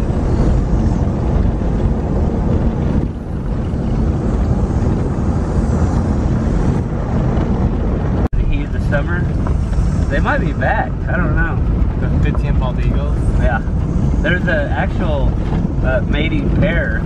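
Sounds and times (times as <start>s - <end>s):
car road noise rumble: 0.0s - 17.0s
wind buffeting microphone: 0.0s - 17.0s.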